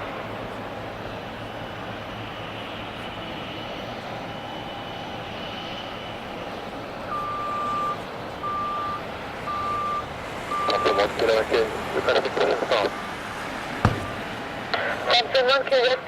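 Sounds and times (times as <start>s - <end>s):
faint high whine: 0.0s - 13.1s
jet aircraft engine: 0.0s - 16.0s.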